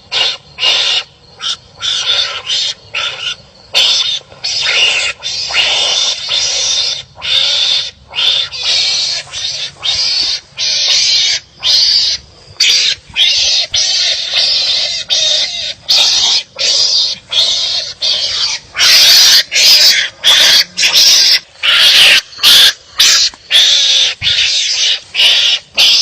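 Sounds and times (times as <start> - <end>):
harsh raspy animal calls: 0.0 - 26.0.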